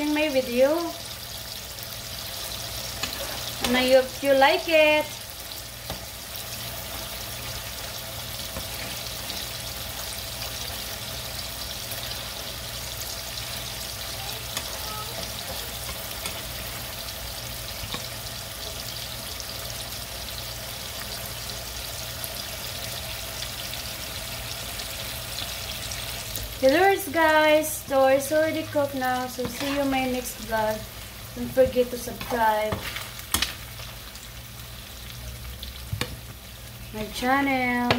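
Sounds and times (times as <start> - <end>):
food sizzling in a frying pan: 0.0 - 37.9.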